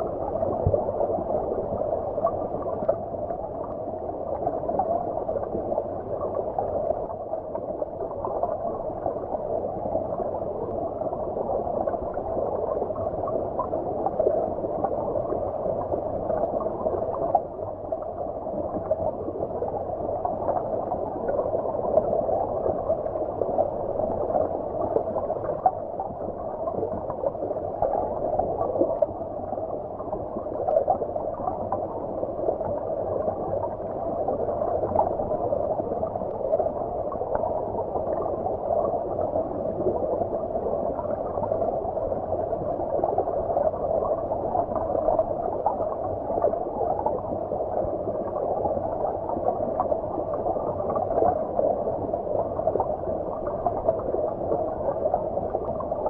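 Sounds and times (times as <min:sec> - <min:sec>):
muffled underwater stream rush: 0:00.0 - 0:56.0.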